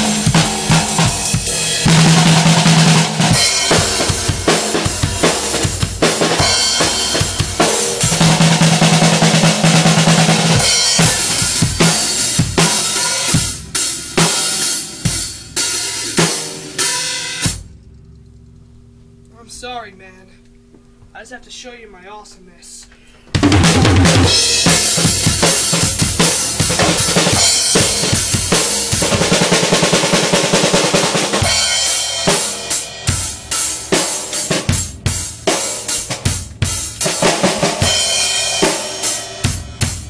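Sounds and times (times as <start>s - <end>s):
drum kit played fast: 0.0s - 17.6s, 23.3s - 40.0s
drum rolls: 0.0s - 17.6s, 23.3s - 40.0s.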